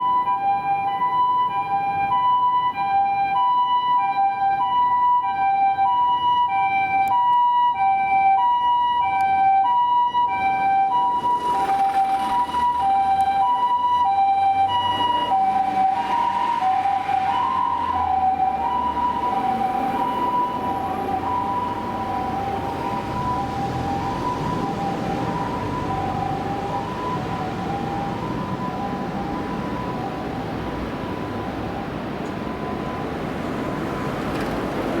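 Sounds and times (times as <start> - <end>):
engine and road noise: 0.0 - 35.0
two-tone ambulance siren: 0.0 - 35.0.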